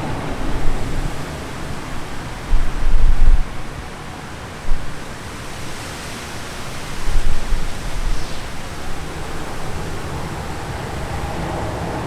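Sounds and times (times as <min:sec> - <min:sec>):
steady rain: 0:00.0 - 0:12.0
wind buffeting microphone: 0:00.0 - 0:12.0.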